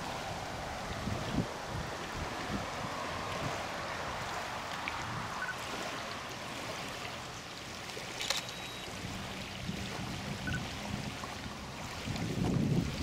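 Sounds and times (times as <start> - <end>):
wind on microphone: 0.0 - 7.4, 8.9 - 13.0
water lapping: 0.0 - 13.0.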